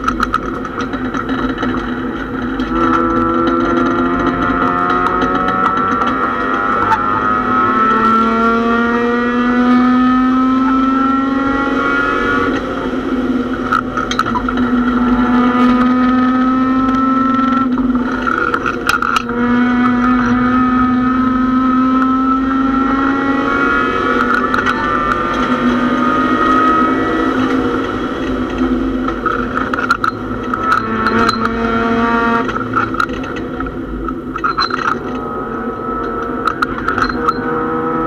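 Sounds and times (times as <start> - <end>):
clacks and rattles: 0.0 - 9.0, 12.1 - 20.8, 21.9 - 38.0
race car engine revving: 0.0 - 38.0.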